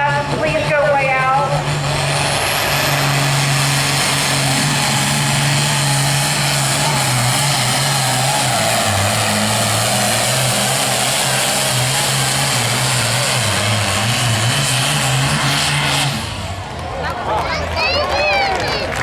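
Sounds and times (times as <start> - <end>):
pulling tractor engine running under load: 0.0 - 19.0.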